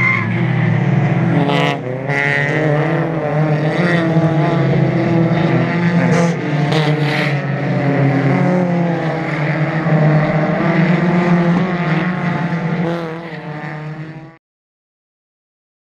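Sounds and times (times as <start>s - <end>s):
race car engines passing: 0.0s - 14.4s.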